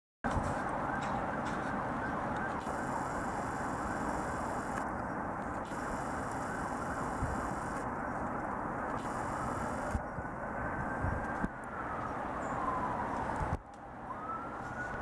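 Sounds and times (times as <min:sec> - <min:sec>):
distant road traffic: 0:00.2 - 0:15.0.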